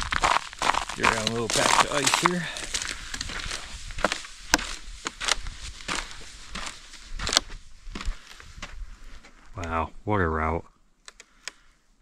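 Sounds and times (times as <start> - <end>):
footsteps on icy rocky trail: 0.0 - 9.8.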